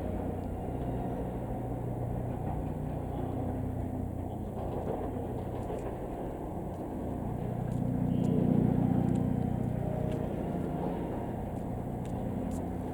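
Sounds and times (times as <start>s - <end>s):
electric train rumbling: 0.0s - 12.9s.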